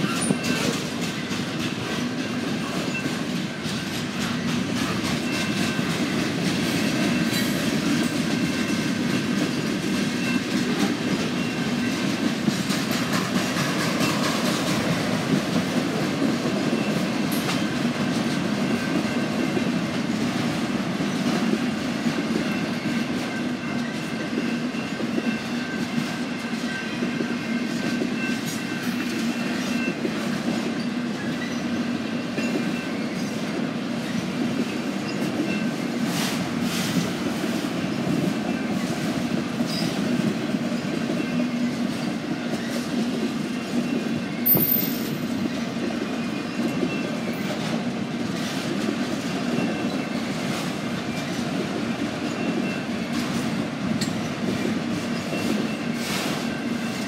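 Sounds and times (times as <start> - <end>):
train wheels rumbling on rails: 0.0 - 57.0
wheels clacking over rail joints: 0.0 - 57.0.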